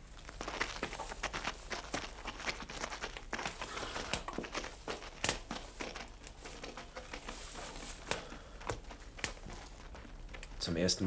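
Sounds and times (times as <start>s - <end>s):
clothing rustling: 0.0s - 11.0s
shuffling footsteps: 0.0s - 11.0s.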